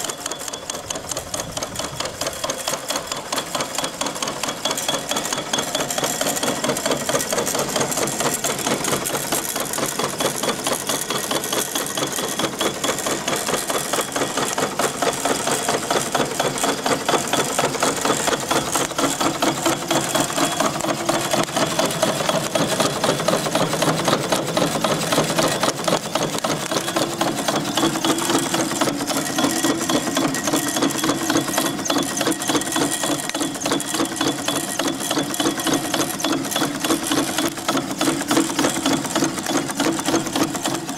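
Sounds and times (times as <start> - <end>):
small steam engines running: 0.0 - 40.9.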